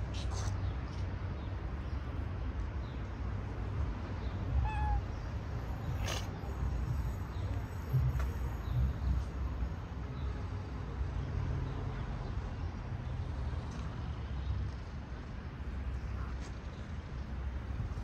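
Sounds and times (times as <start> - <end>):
low outdoor background rumble: 0.0 - 18.0.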